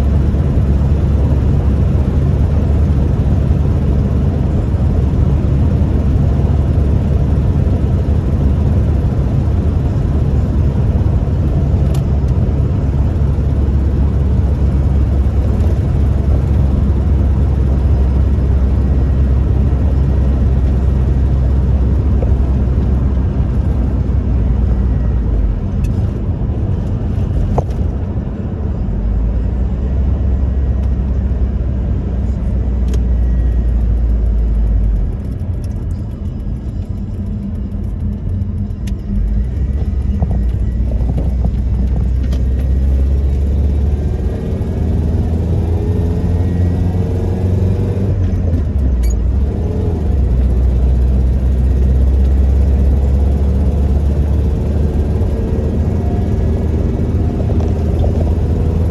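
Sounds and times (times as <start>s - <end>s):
pickup engine and road rumble: 0.0s - 58.9s.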